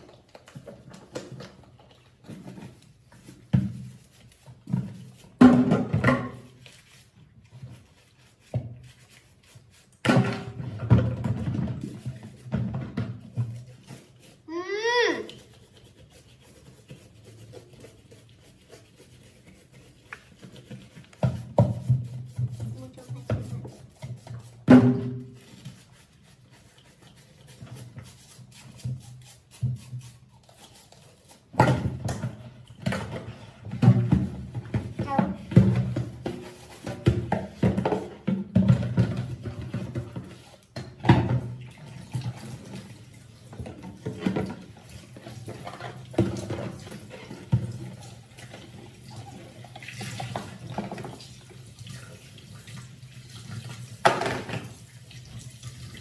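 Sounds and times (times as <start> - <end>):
brush scrubbing a plastic bottle: 0.0 - 56.0.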